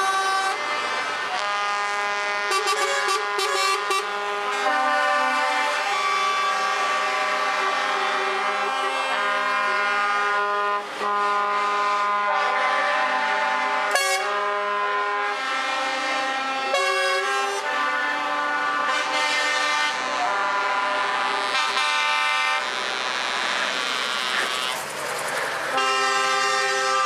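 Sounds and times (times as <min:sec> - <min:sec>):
truck air horns blasting: 0:00.0 - 0:27.0.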